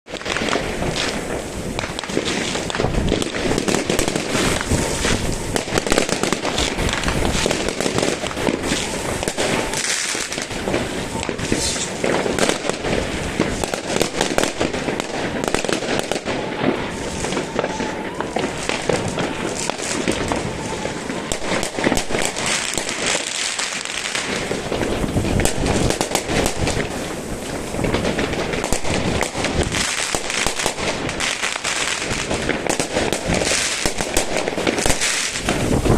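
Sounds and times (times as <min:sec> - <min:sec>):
fireworks crackling and banging: 0:00.0 - 0:35.9.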